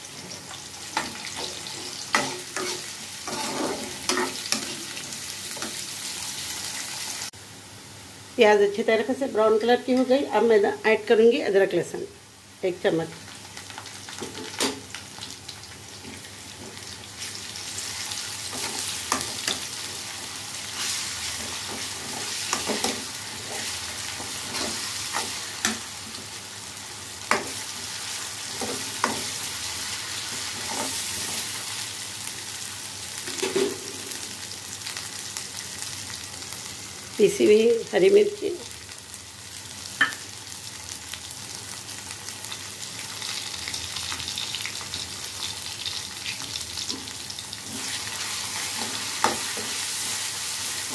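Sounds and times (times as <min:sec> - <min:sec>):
onions sizzling in hot oil: 0:00.0 - 0:11.5, 0:12.2 - 0:50.9.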